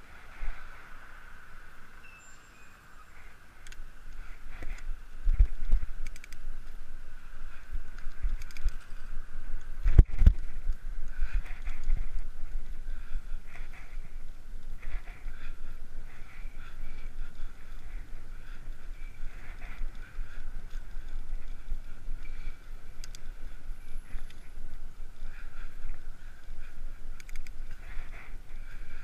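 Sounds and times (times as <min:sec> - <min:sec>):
wind and road rumble: 0:00.0 - 0:29.0
bicycle clicks and rattles: 0:03.6 - 0:29.0.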